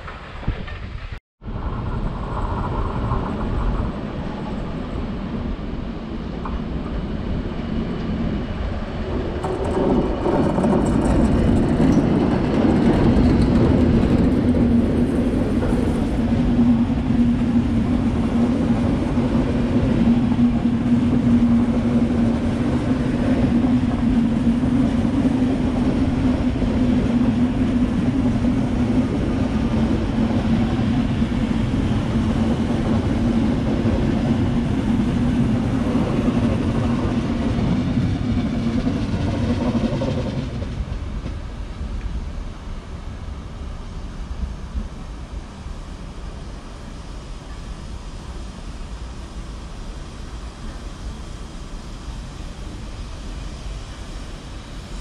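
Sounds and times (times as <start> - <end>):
train passing close: 0.0 - 55.0.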